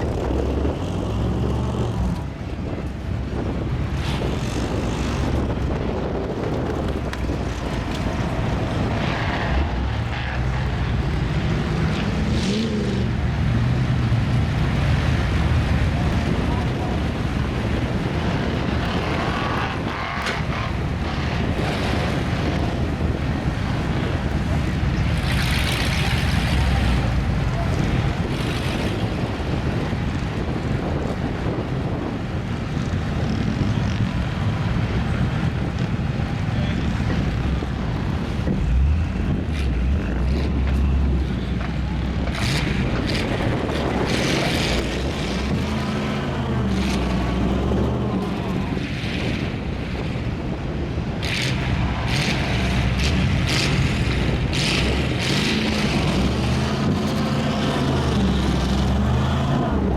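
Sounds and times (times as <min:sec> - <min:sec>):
truck engine running hard: 0:00.0 - 0:59.9
wind buffeting microphone: 0:00.0 - 0:59.9.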